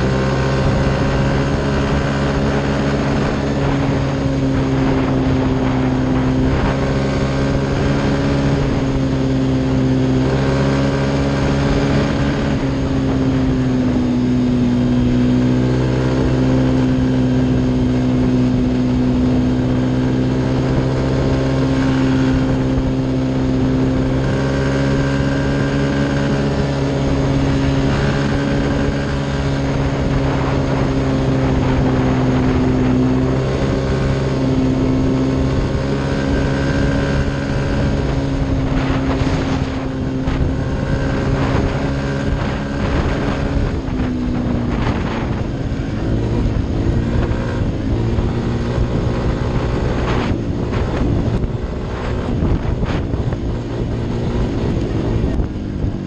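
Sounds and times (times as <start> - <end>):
motorcycle engine at high revs: 0.0 - 56.0
wind noise: 0.0 - 56.0.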